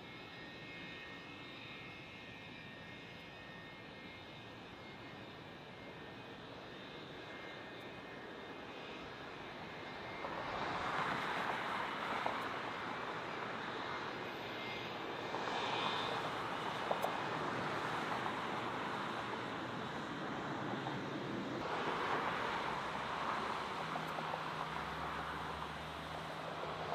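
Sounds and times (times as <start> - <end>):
jet airliner engines: 0.0 - 26.9.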